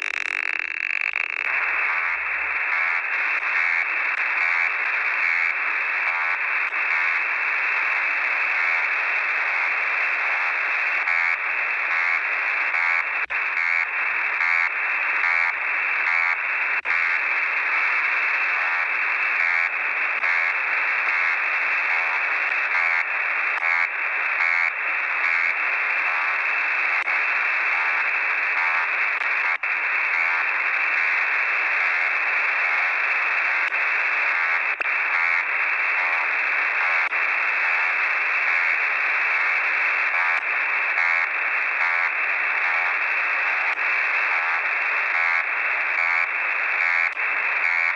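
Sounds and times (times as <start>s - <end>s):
shortwave radio static hiss: 0.0s - 47.9s.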